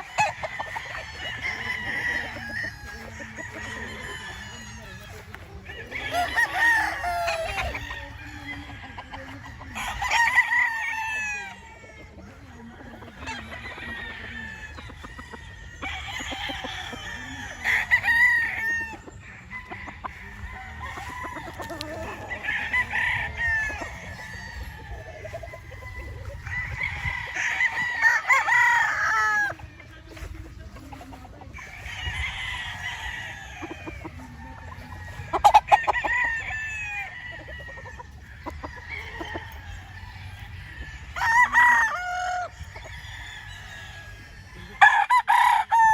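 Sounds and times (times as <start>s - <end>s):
roosters crowing: 0.0s - 45.9s.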